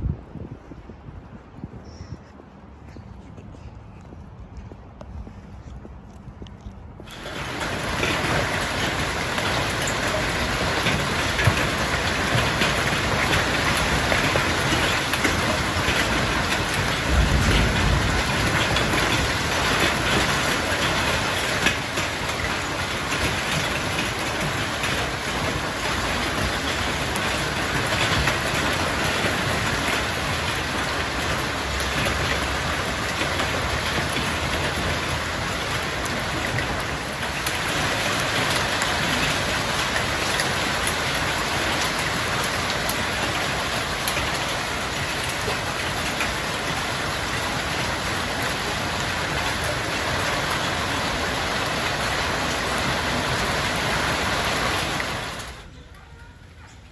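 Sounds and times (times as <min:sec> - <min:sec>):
hail and rain falling: 0:07.0 - 0:56.9.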